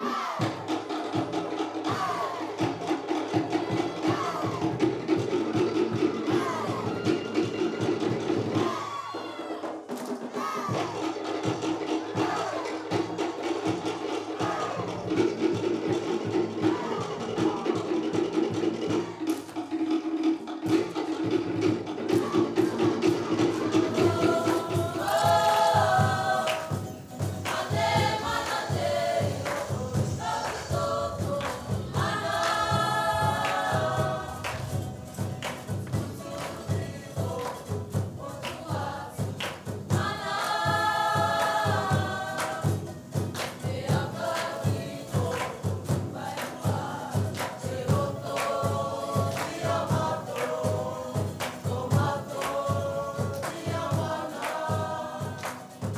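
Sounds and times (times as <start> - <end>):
fast steady drumming: 0.0 - 55.9
group of voices singing in chorus: 0.0 - 55.9.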